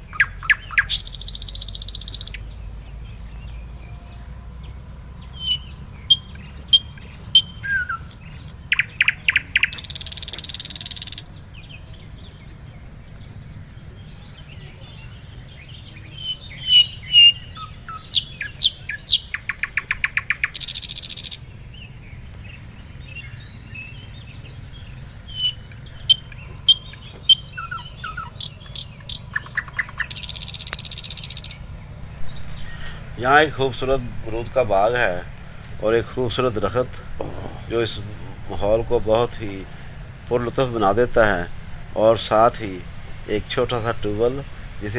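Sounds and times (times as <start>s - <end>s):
bird trill: 0.0s - 44.9s
songbirds chirping and whistling: 0.0s - 44.9s.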